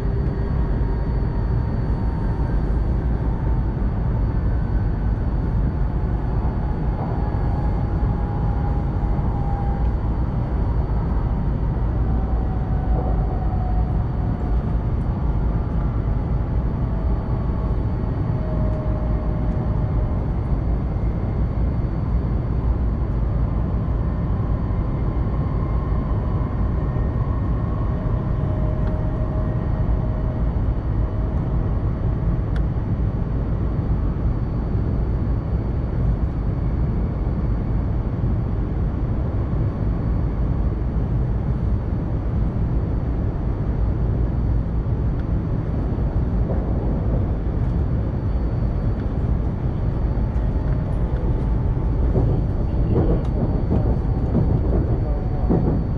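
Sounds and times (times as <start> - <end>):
faint whine: 0.0 - 55.9
train rumbling at speed: 0.0 - 55.9.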